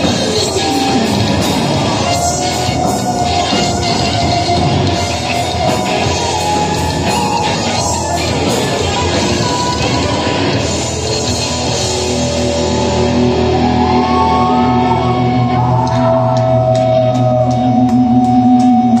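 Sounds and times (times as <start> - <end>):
distorted electric guitars: 0.0 - 19.0
drums: 0.0 - 19.0
metal band playing live: 0.0 - 19.0.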